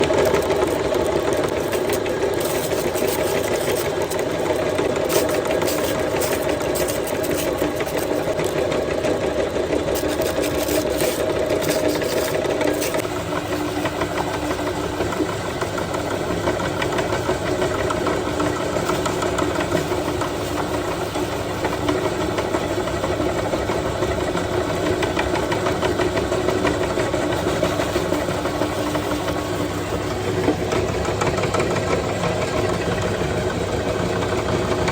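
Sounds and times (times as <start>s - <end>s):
electric meat grinder running: 0.0s - 34.9s.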